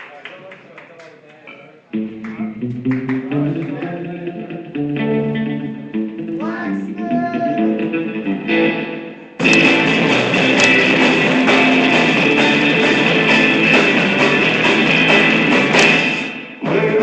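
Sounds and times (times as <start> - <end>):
guitar music: 1.5 - 17.0.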